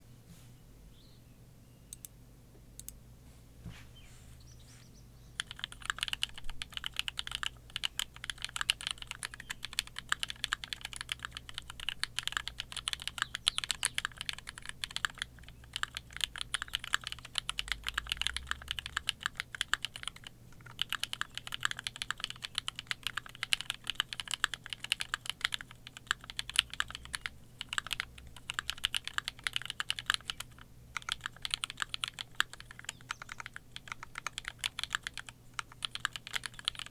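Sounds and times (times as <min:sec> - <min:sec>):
fast typing on mechanical keyboard: 0:05.4 - 0:36.9.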